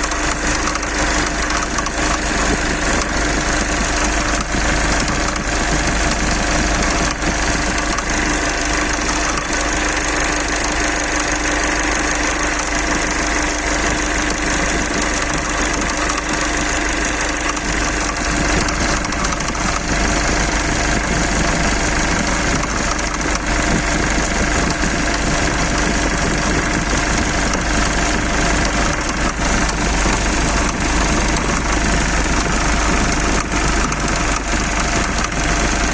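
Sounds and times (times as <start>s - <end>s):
diesel engine idling with knock: 0.0s - 35.9s.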